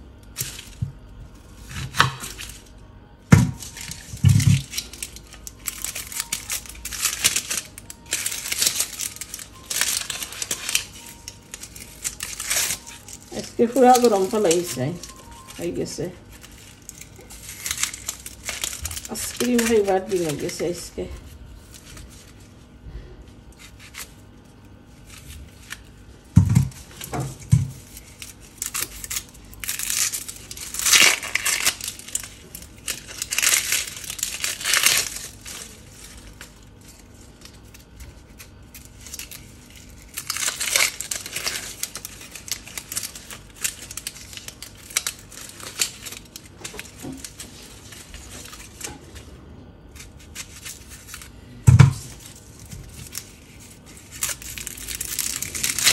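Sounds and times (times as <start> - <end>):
onion skin crinkling and tearing: 0.1 - 55.9.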